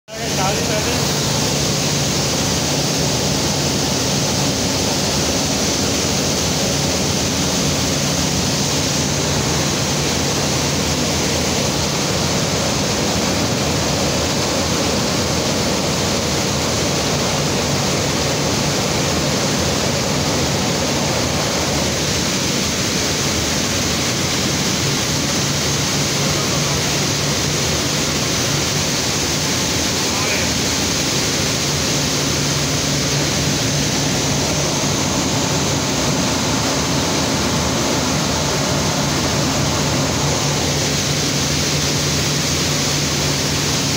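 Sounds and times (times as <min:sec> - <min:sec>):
machine hum: 0:00.1 - 0:43.9.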